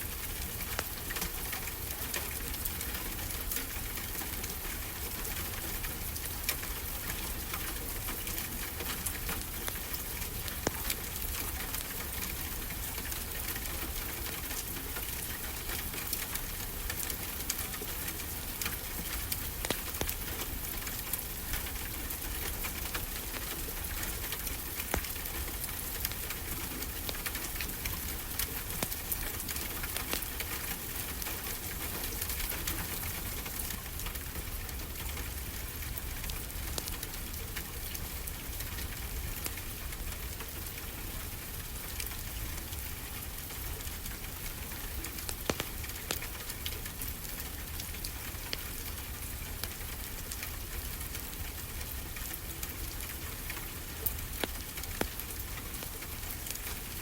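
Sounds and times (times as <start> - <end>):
wood fire crackling: 6.2 - 57.0.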